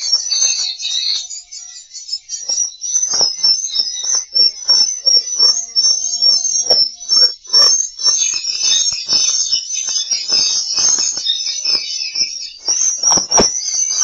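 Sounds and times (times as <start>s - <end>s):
swiftlets twittering: 0.0s - 14.0s.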